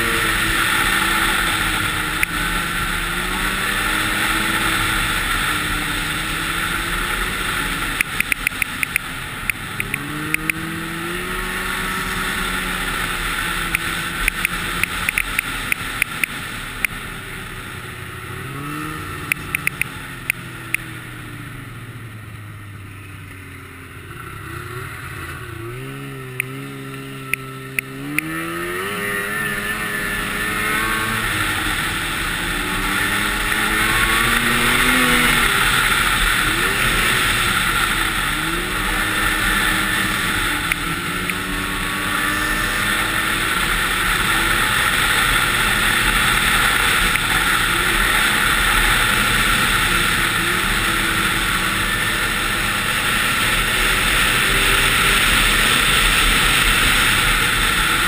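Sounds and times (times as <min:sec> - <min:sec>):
snowmobile engine accelerating: 0:00.0 - 0:58.0
steady rushing noise: 0:00.0 - 0:58.0.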